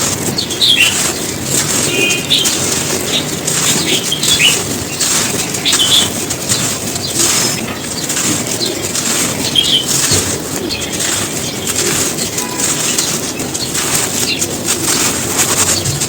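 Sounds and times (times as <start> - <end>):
crunchy material being crushed: 0.0 - 16.0.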